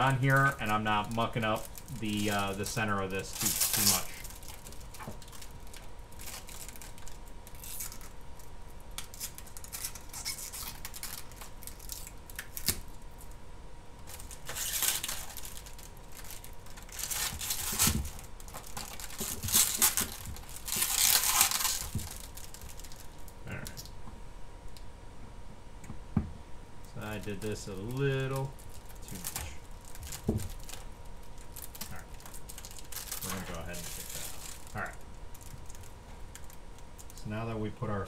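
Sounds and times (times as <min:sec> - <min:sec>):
plastic film crinkling: 0:00.0 - 0:13.4, 0:14.0 - 0:23.9, 0:27.0 - 0:37.2.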